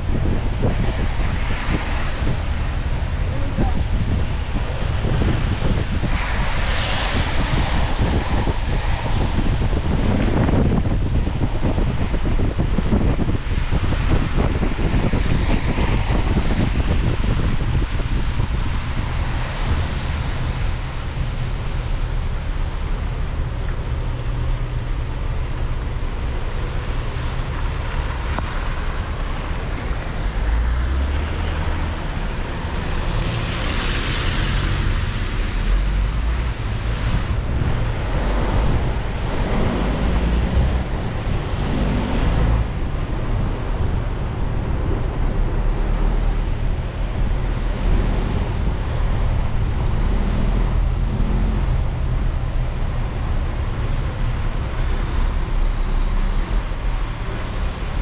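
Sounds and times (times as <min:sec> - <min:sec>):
car road noise rumble: 0:00.0 - 0:58.0
tyres hissing on wet road: 0:00.0 - 0:58.0.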